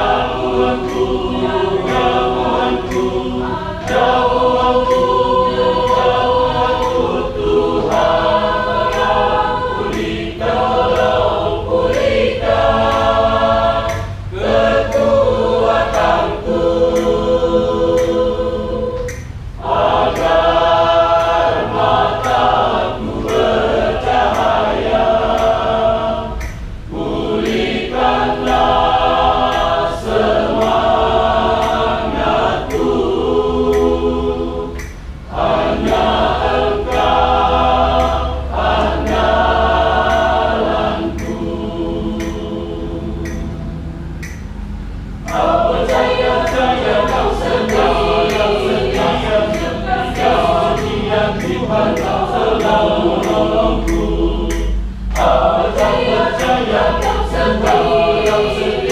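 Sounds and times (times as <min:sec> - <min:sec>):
choir singing: 0:00.0 - 0:58.9.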